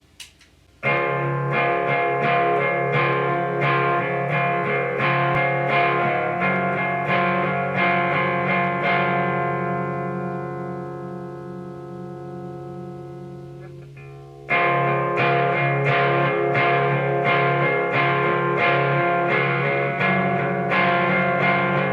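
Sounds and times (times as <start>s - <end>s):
overdriven electric guitar chords: 0.8s - 21.9s.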